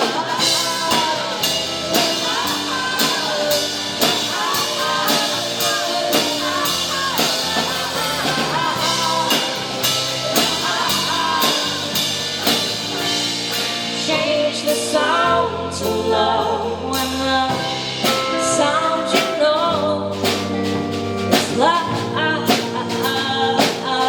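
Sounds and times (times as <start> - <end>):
bass guitar: 0.0 - 24.0
drum kit steady beat: 0.0 - 24.0
electric guitar: 0.0 - 24.0.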